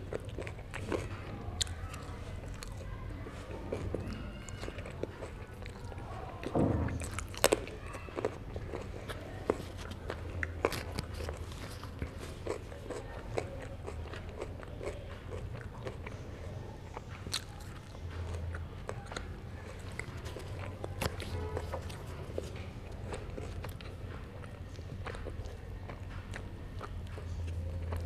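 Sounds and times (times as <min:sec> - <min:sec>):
close chewing with crunches: 0:00.0 - 0:28.0.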